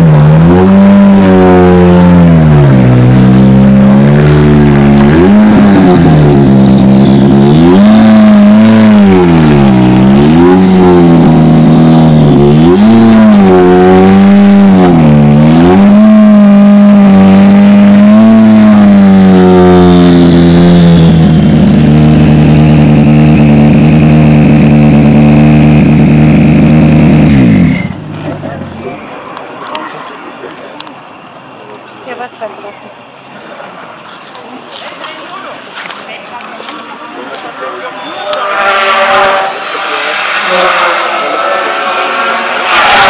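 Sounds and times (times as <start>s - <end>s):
rally car engine revving: 0.0s - 32.3s, 37.3s - 43.0s
car engine idling: 0.0s - 43.0s.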